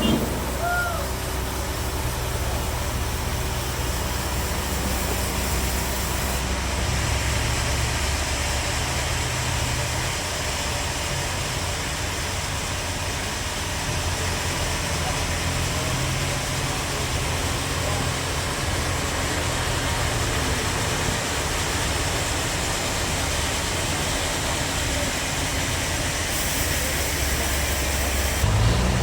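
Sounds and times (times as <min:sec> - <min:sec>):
bandsaw machinery running: 0:00.0 - 0:29.0.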